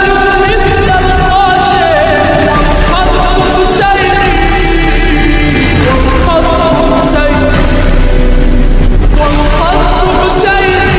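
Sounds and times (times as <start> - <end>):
solo voice singing ornamented melody: 0.0 - 8.2, 9.2 - 10.9
low bass drone: 0.8 - 10.9.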